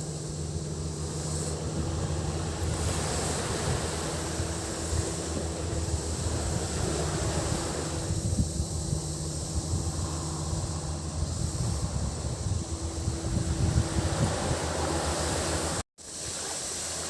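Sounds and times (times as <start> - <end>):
steady low hum: 0.0 - 15.8
cicadas droning: 0.0 - 17.0
waves washing onto beach: 0.0 - 17.0.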